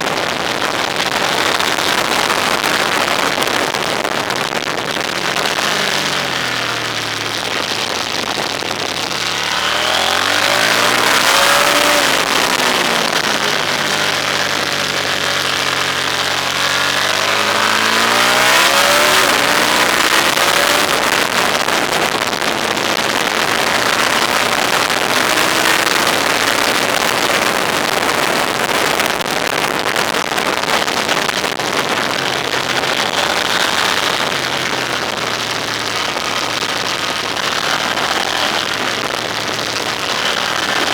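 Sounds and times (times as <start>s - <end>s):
car engine accelerating: 0.0s - 28.5s, 30.6s - 40.9s
wind and road noise: 0.0s - 40.9s.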